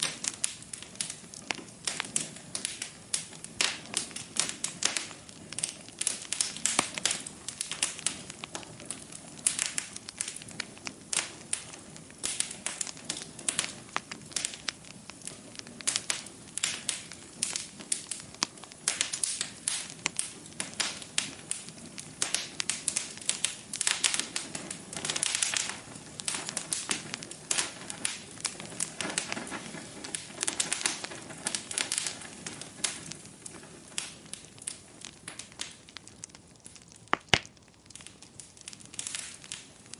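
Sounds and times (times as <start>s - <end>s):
fire hissing: 0.0s - 39.9s
fire popping and crackling: 0.0s - 39.9s.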